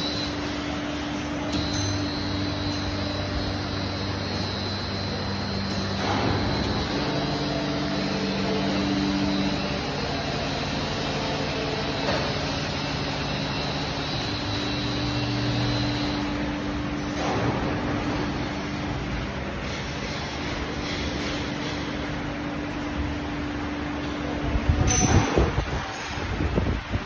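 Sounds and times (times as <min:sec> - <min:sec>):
moulding machine humming: 0:00.0 - 0:27.0.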